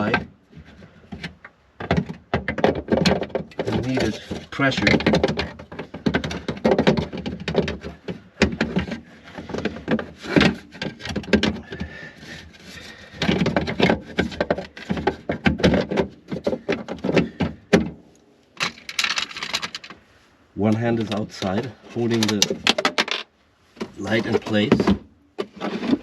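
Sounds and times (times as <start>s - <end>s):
plastic knocks clicks and rattles: 0.0s - 18.0s, 18.6s - 20.0s, 20.7s - 26.0s
rustling handling noise: 0.0s - 26.0s.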